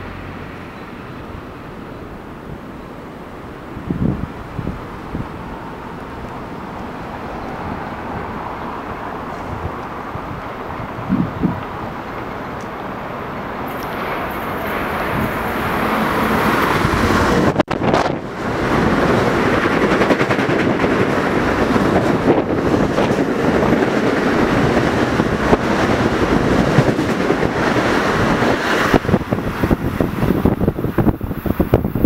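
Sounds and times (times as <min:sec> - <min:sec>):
train passing at speed: 0:00.0 - 0:32.0
wheel-on-rail noise: 0:00.0 - 0:32.0.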